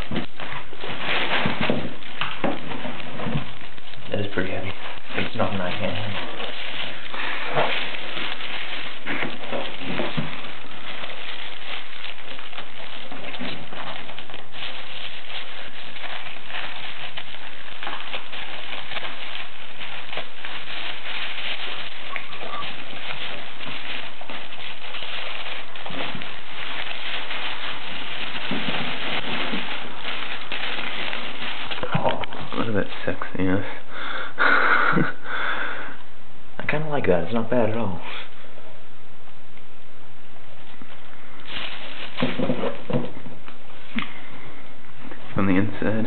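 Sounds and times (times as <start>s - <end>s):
plastic packaging crinkling: 0.0s - 36.0s, 40.4s - 46.0s.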